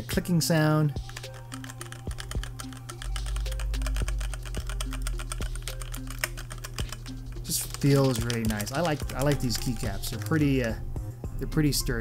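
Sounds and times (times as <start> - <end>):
background music: 0.0 - 12.0
fast mechanical keyboard typing: 1.0 - 10.8.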